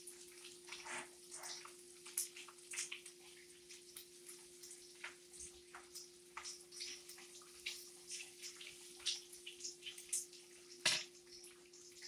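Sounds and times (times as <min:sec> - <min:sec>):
grease crackling and popping: 0:00.0 - 0:12.0
meat sizzling in a pan: 0:00.0 - 0:12.0.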